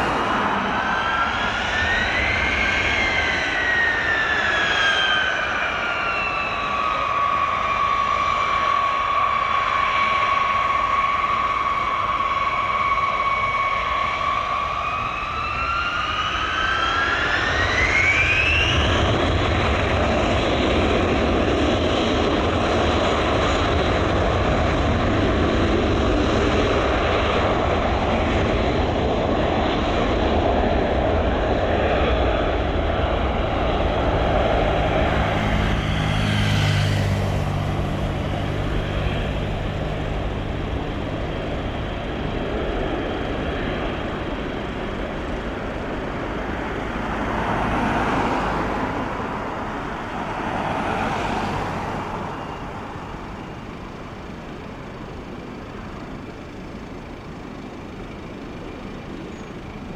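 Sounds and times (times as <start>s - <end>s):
jet engine roar: 0.0s - 59.9s
jet engines whining: 0.0s - 59.9s.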